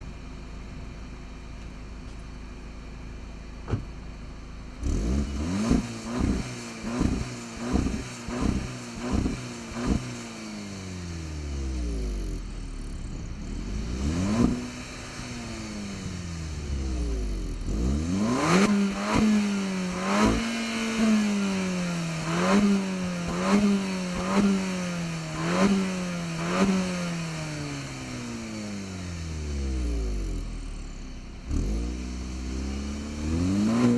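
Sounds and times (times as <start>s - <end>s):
car engine revving: 4.8s - 33.9s.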